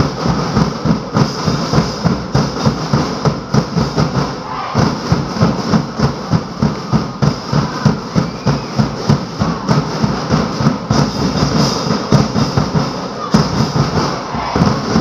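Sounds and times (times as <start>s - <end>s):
drums beating fast rhythm: 0.0s - 15.0s.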